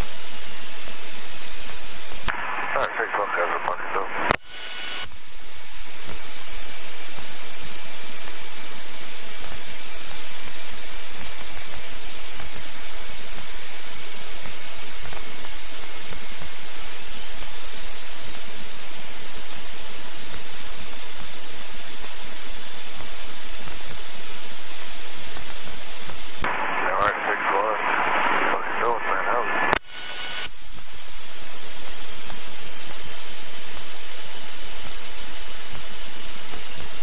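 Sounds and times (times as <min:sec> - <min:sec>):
loud static hiss: 0:00.0 - 0:37.0.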